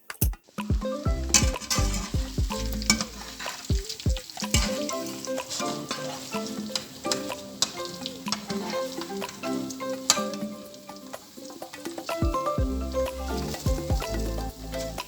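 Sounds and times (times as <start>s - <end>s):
background music with a beat: 0.0s - 15.0s
food sizzling in a pan: 0.6s - 15.0s.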